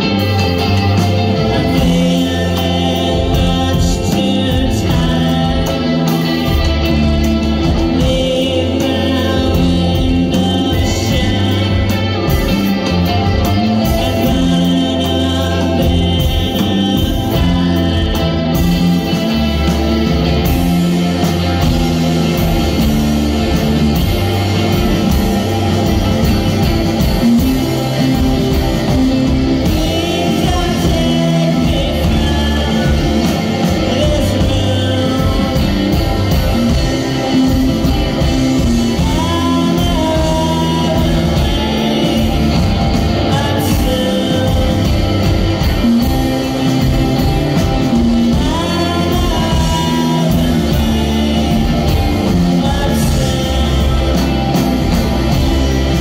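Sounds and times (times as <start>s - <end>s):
bass guitar: 0.0s - 56.0s
drums: 0.0s - 56.0s
electric guitars: 0.0s - 56.0s
person singing: 0.0s - 56.0s.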